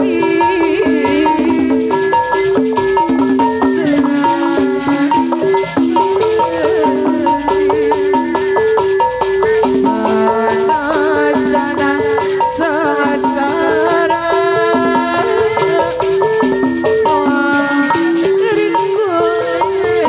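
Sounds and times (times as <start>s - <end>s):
steady percussion: 0.0s - 20.0s
wavering higher melody line: 0.0s - 20.0s.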